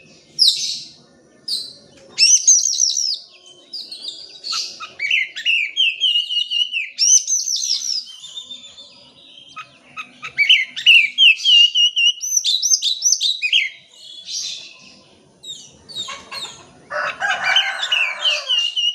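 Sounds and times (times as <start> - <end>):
bird singing whistles and trills: 0.0 - 16.5, 17.9 - 18.9.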